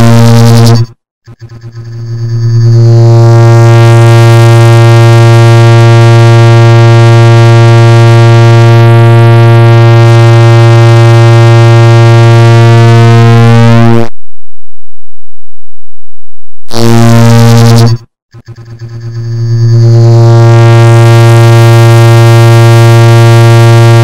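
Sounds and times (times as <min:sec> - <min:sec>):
loud steady low buzz: 0:00.0 - 0:24.0.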